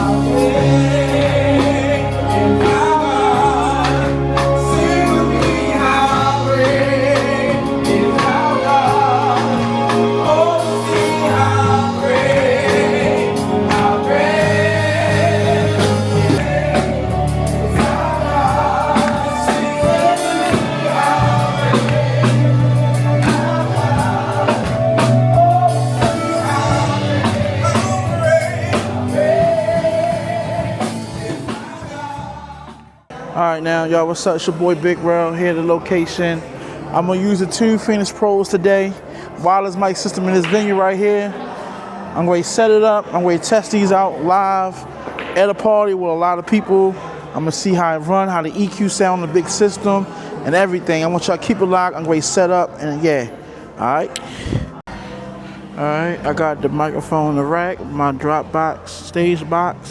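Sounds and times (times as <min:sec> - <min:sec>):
gospel music with singing: 0:00.0 - 0:59.9.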